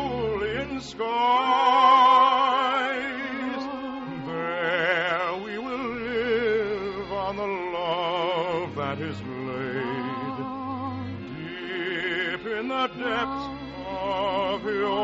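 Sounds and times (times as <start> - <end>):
man singing operetta: 0.0 - 15.0
orchestral accompaniment: 0.0 - 15.0.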